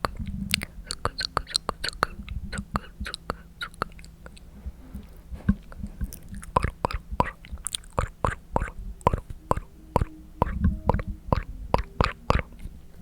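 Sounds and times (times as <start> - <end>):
tongue and lip clicks: 0.0 - 4.5, 5.5 - 12.7.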